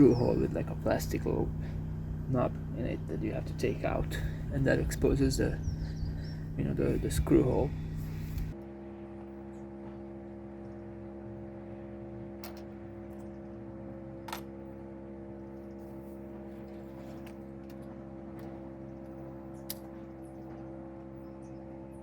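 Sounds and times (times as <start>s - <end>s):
steady tonal hum: 0.0s - 22.0s.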